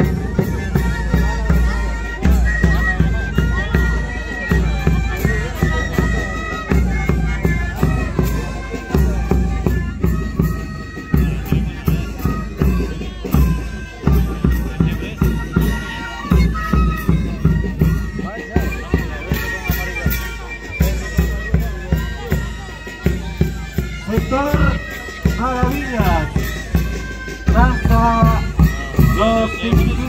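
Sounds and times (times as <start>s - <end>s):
reedy wind instruments dance music: 0.0s - 30.0s.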